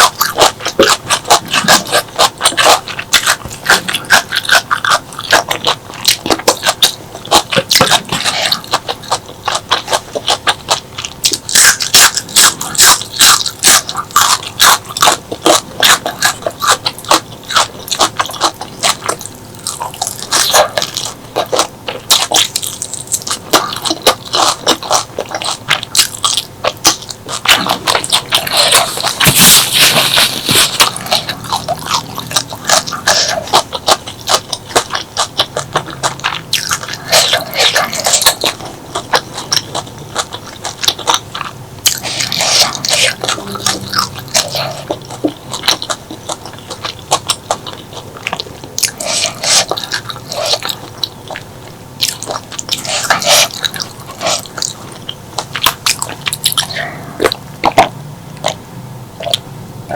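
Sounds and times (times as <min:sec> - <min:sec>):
lip smacks: 0:00.0 - 0:58.6
wet chewing: 0:00.0 - 0:58.6, 0:59.2 - 0:59.9
food crunching: 0:00.0 - 0:59.9.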